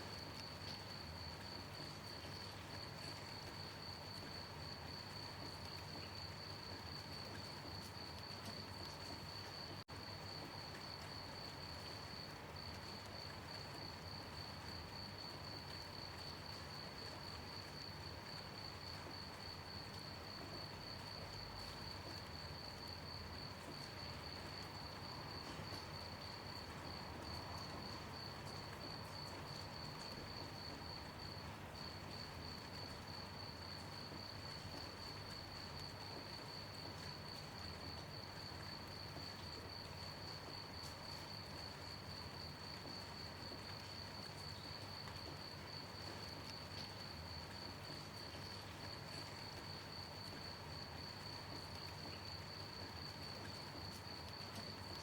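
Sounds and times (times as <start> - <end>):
crickets chirping: 0.0 - 55.0
gentle rain hiss: 0.0 - 55.0.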